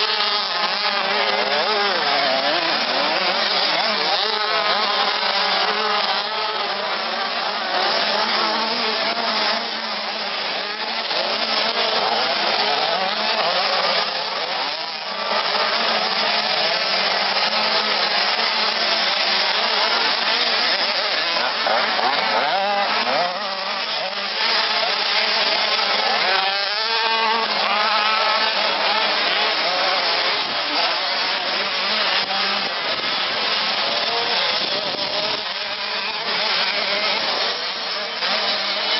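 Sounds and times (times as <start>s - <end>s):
two-stroke motocross engines revving: 0.0s - 38.9s.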